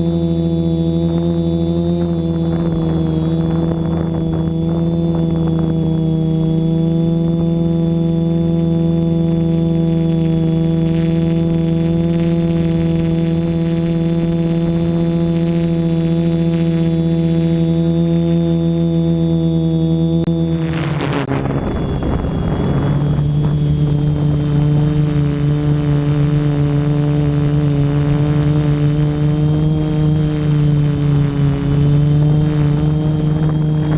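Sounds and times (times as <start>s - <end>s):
drone propellers whirring: 0.0s - 33.9s.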